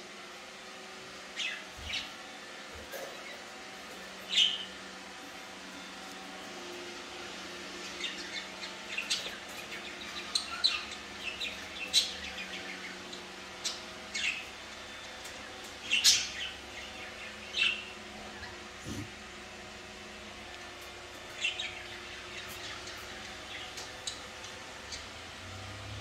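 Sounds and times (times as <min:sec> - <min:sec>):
birds chirping: 0:01.1 - 0:26.0.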